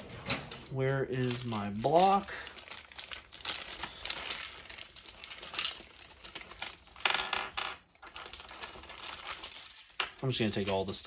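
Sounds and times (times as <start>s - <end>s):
packaging rustling: 0.0s - 7.3s, 7.9s - 11.0s.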